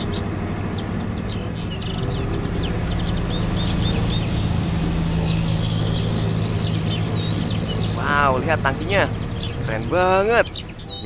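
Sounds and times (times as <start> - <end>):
birds chirping: 0.0 - 11.0
truck diesel engine driving past: 0.0 - 11.0.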